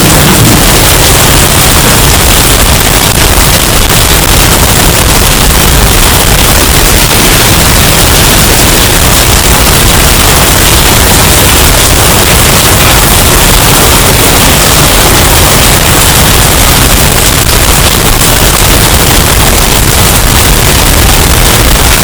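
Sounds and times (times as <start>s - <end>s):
distorted hurricane wind: 0.0s - 22.0s.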